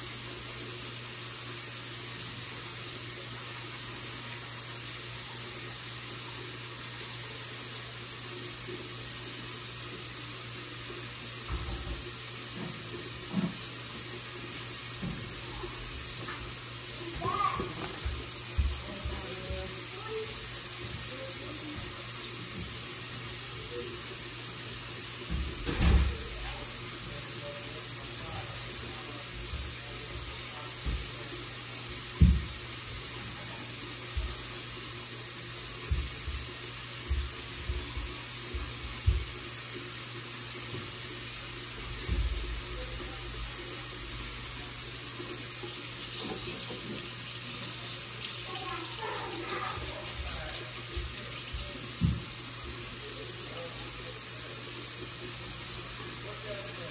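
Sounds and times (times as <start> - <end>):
tap running into a sink: 8.5 - 56.9.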